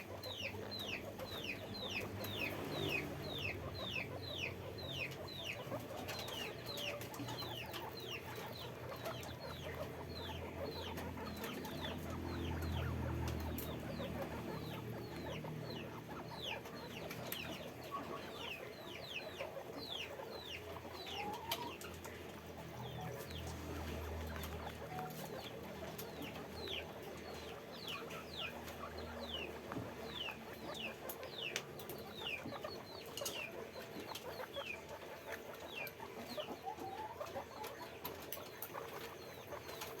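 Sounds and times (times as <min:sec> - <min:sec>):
guinea pigs squeaking: 0:00.0 - 0:40.0.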